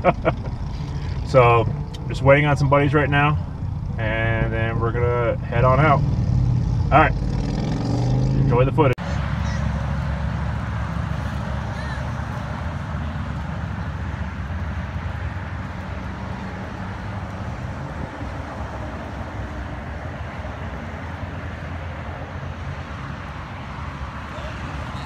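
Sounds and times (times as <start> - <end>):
car engine idling: 0.0 - 7.2, 8.5 - 25.0
outdoor background noise: 0.0 - 25.0.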